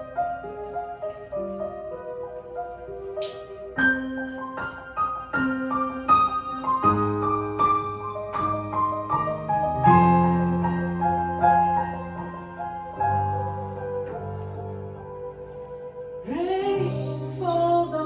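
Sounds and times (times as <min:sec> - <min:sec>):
gentle piano melody with chords: 0:00.0 - 0:18.0.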